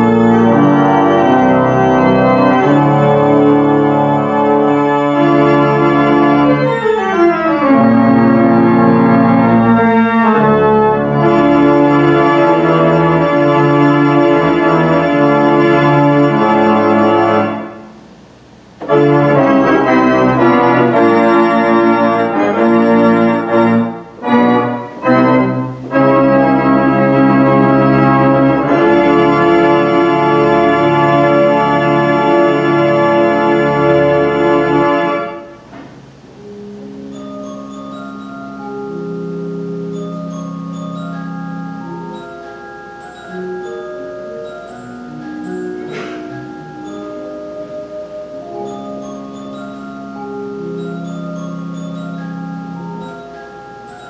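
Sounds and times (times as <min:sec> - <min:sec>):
pipe organ chords: 0:00.0 - 0:54.0.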